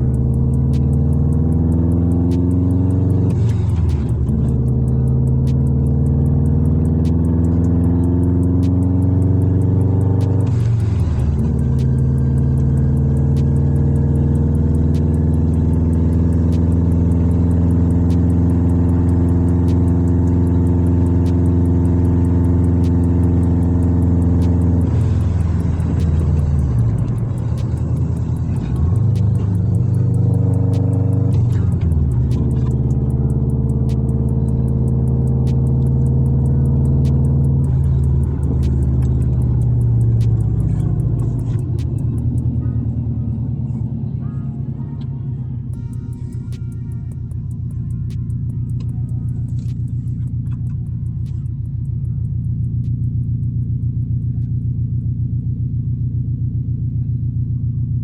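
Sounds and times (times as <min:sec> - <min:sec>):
car engine revving and cruising: 0:00.0 - 0:58.0.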